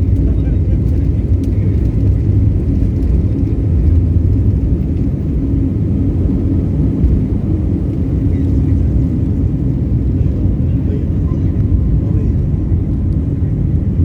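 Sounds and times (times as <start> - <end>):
airliner jet engines rumbling: 0.0 - 14.0.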